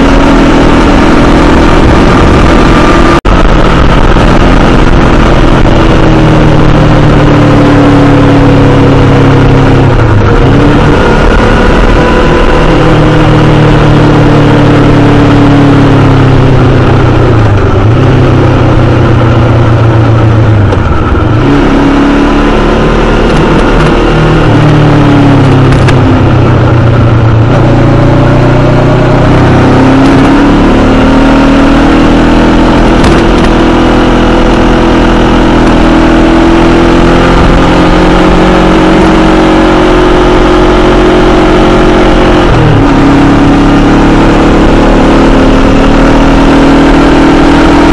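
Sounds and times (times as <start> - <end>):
motorcycle engine revving: 0.0 - 47.9
wind and road noise: 0.0 - 47.9.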